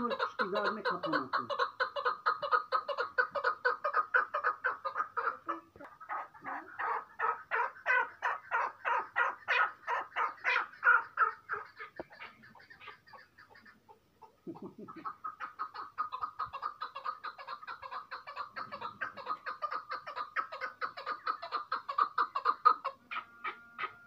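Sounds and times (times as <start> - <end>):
partridge clucking calls: 0.0 - 24.0.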